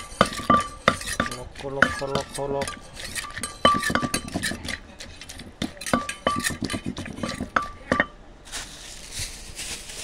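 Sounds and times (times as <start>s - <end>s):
wooden pestle knocking in mortar: 0.0s - 8.1s
metal spoon clinking and scraping: 0.0s - 8.2s.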